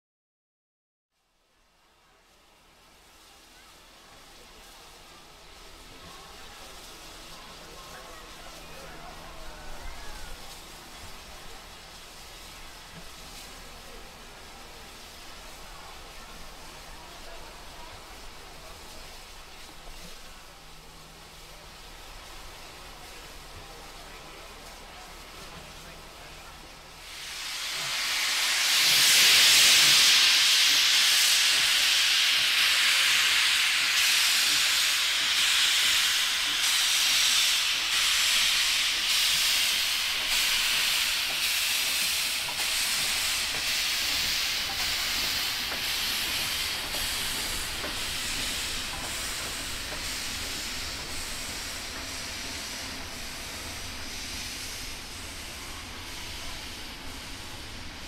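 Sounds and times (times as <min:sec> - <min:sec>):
faint regular locomotive beats: 0:01.3 - 0:58.0
steam hissing: 0:01.8 - 0:58.0.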